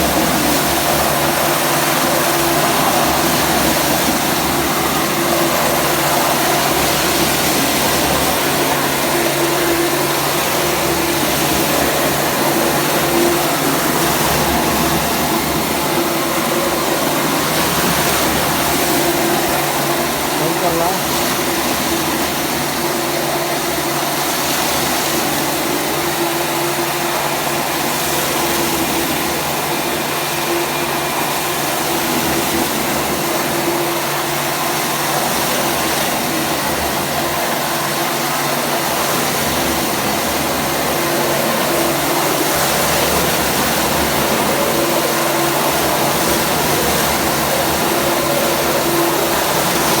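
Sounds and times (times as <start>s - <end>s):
industrial mixer rushing: 0.0s - 50.0s.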